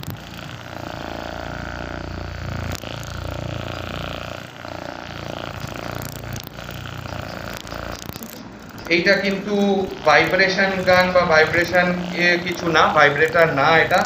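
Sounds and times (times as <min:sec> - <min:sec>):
massage gun buzzing: 0:00.0 - 0:14.0.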